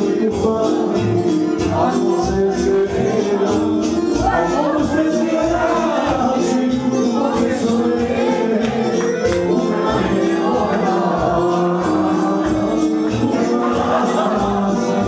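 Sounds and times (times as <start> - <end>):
group singing along: 0.0 - 15.0
music with steady beat: 0.0 - 15.0.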